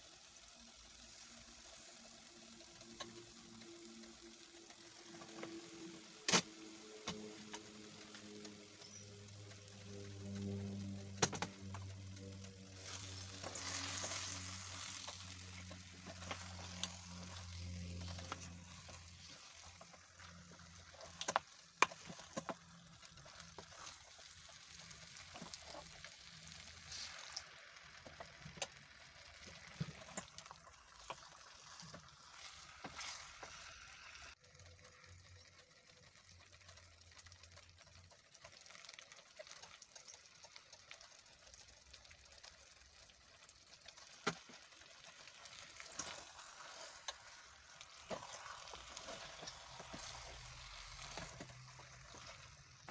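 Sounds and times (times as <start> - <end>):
sauce sizzling in a pot: 0.0 - 52.9.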